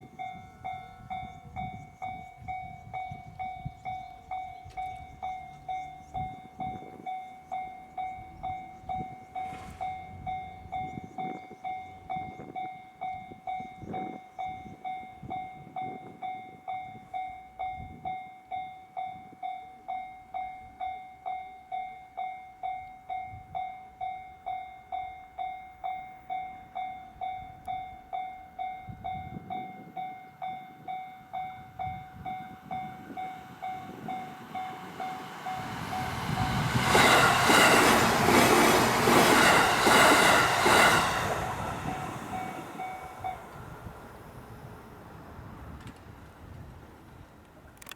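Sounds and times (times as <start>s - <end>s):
train rumble and wheel clatter: 0.0s - 18.5s, 22.2s - 47.9s
level crossing warning bell ringing: 0.0s - 44.9s.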